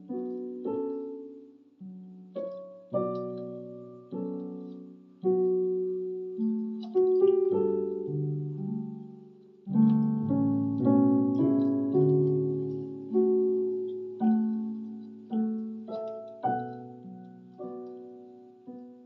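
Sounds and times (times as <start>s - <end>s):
electronic keyboard piano tune: 0.0s - 19.0s.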